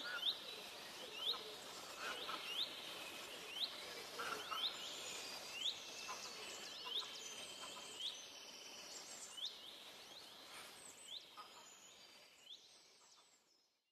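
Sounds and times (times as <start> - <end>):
steady high hiss: 0.0 - 13.1.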